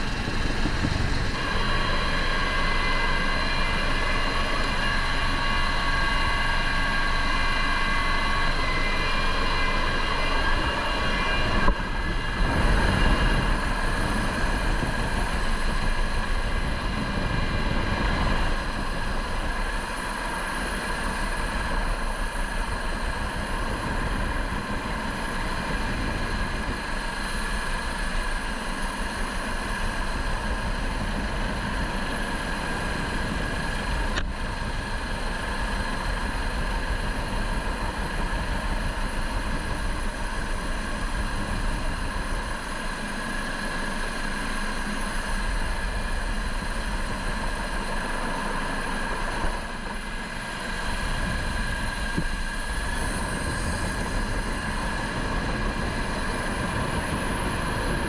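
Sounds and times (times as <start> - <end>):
helicopter rotor noise: 0.0 - 58.0
helicopter turbine whine: 0.0 - 58.0.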